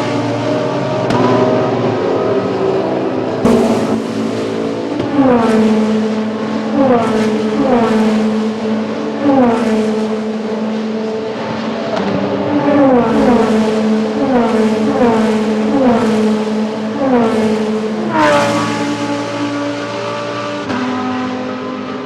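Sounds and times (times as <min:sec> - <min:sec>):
race cars passing at speed: 0:00.0 - 0:22.0.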